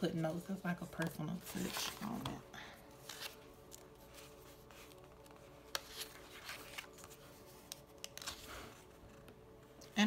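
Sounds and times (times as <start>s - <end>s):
paper pages rustling: 0.9s - 9.3s.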